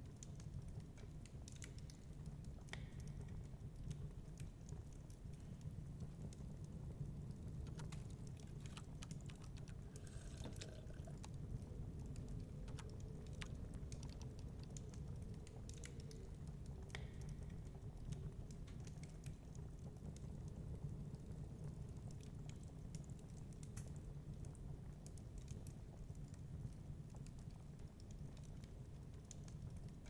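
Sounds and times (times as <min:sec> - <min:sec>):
low fire rumble: 0:00.0 - 0:30.0
wood fire crackling and popping: 0:00.0 - 0:30.0.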